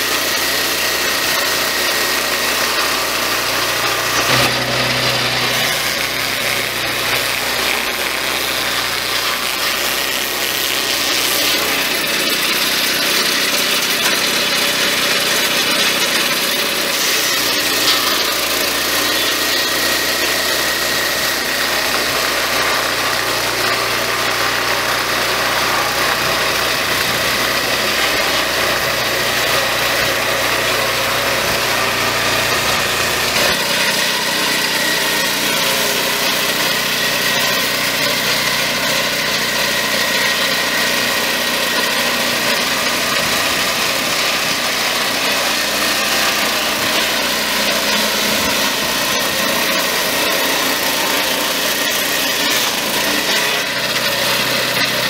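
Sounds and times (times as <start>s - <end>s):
portable sawmill cutting log: 0.0s - 55.0s.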